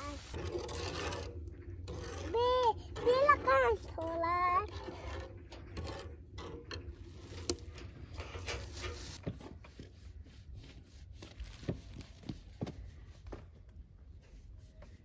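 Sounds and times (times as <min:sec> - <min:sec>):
objects knocking and rubbing: 0:00.3 - 0:13.5.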